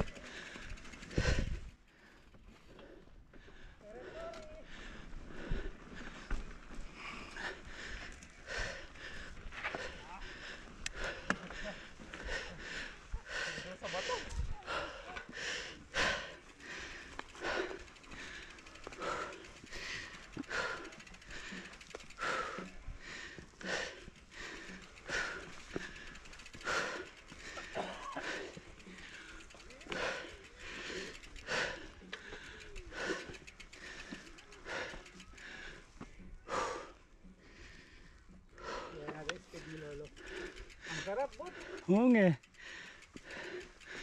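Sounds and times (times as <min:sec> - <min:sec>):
person breathing hard: 0:00.0 - 0:44.0.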